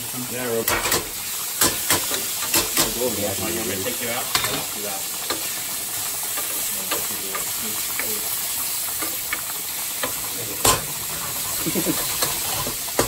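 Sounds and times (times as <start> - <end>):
bacon sizzling in a skillet: 0.0 - 13.0.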